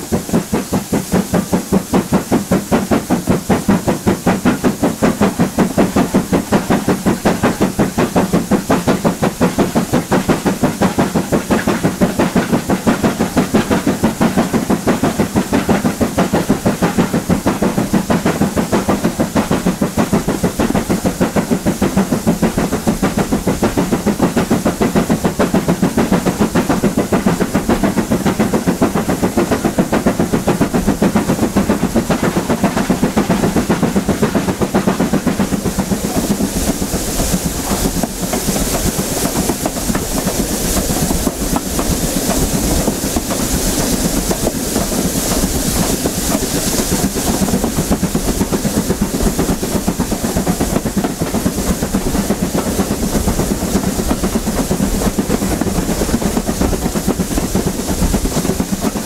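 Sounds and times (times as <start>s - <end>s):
rail noise: 0.0s - 59.0s
steam hiss: 0.0s - 59.0s
steam locomotive exhaust beats: 0.0s - 59.0s.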